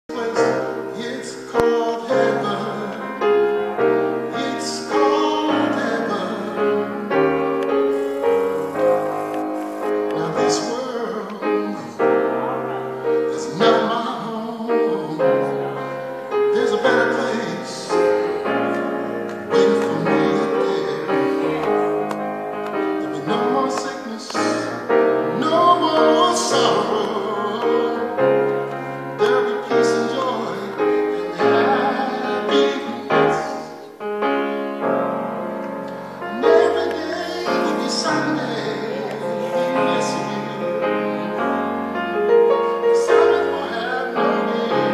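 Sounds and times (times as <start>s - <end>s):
man singing: 0.0s - 7.3s, 7.9s - 34.0s, 36.2s - 44.9s
grand piano playing slowly: 0.1s - 44.9s.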